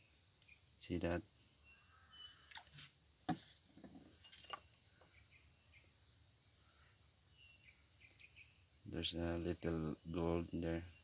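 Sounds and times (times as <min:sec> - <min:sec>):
faint chirping: 0:00.0 - 0:03.0, 0:04.1 - 0:11.0.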